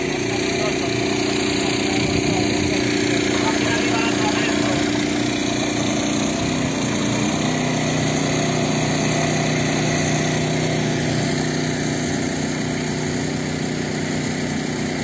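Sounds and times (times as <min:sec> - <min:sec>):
small pump engine running: 0:00.0 - 0:15.0.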